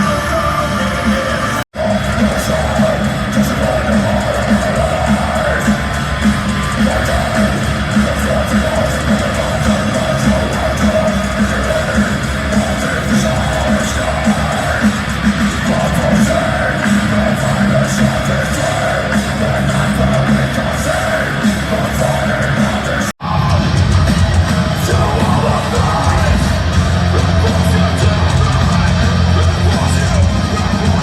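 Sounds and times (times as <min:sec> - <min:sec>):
driving drum beat: 0:00.0 - 0:31.0
heavy metal guitars: 0:00.0 - 0:31.0
yelled vocals: 0:00.0 - 0:31.0.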